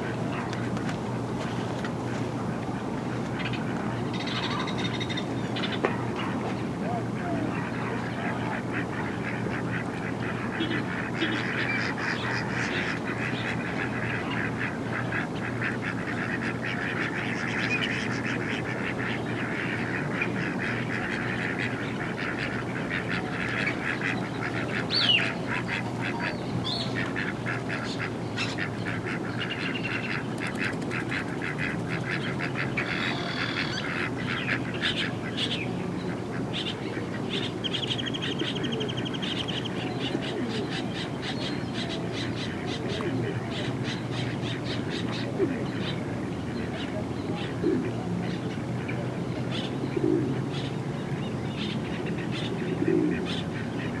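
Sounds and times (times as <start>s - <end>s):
steady low hum: 0.0s - 54.0s
ducks quacking: 2.1s - 54.0s.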